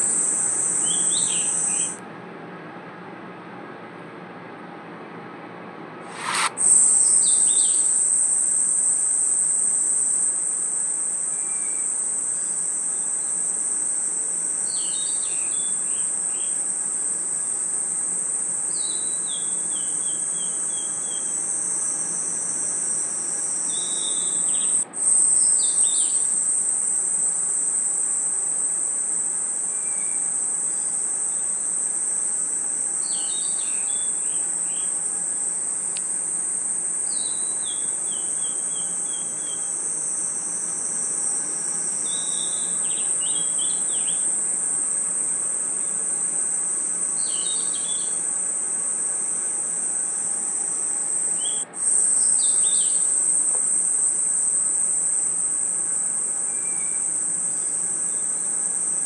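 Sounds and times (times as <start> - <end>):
crickets and insects trilling: 0.0 - 2.0, 6.1 - 59.0.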